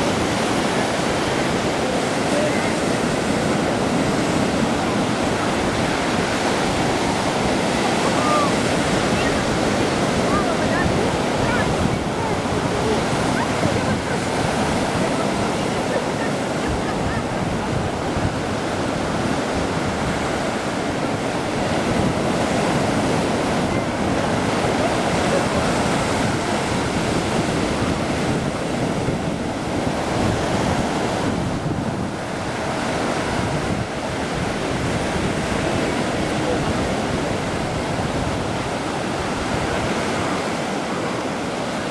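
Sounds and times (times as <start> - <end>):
waves washing onto shore: 0.0 - 41.9
wind noise on microphone: 0.0 - 41.9.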